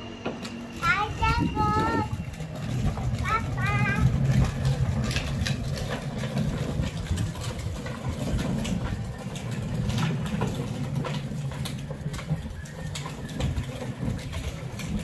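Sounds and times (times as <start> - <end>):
plastic wheels rolling on concrete: 0.0 - 15.0
small clicks and rattles: 0.4 - 15.0.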